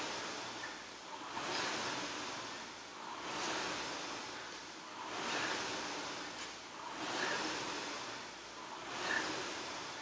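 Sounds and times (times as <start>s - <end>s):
rowing machine fan whooshing: 0.0s - 10.0s.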